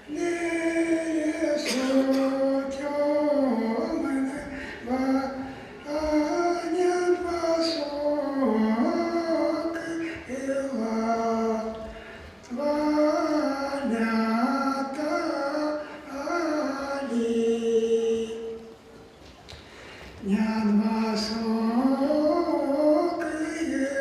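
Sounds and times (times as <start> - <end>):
person singing long notes: 0.0 - 18.8, 20.2 - 24.0.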